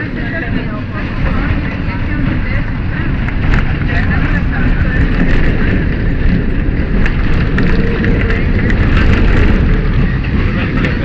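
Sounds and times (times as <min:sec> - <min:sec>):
tram rumbling on rails: 0:00.0 - 0:11.0
rattles and clicks: 0:00.5 - 0:11.0.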